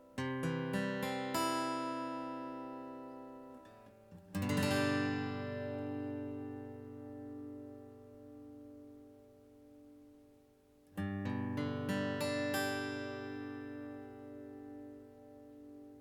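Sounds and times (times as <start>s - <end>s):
acoustic guitar strumming: 0.0s - 10.4s, 11.0s - 16.0s.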